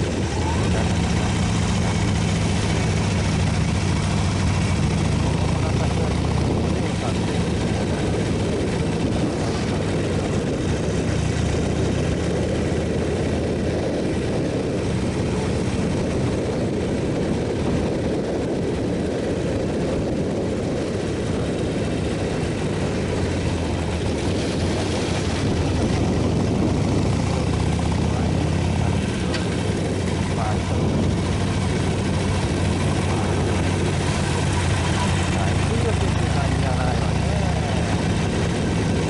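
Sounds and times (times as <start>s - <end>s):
motorcycle engine running: 0.0s - 39.0s
rushing wind noise: 0.0s - 39.0s.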